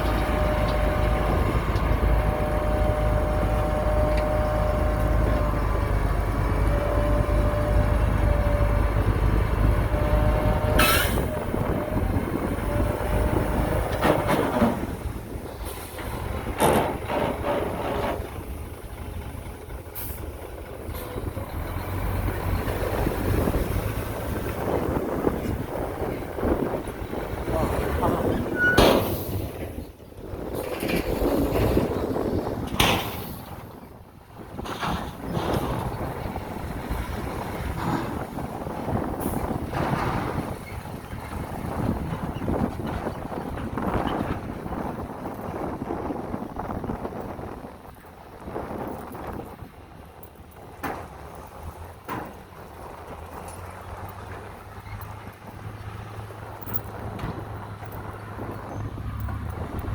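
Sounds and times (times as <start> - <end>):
heavy machinery rumbling: 0.0 - 59.9.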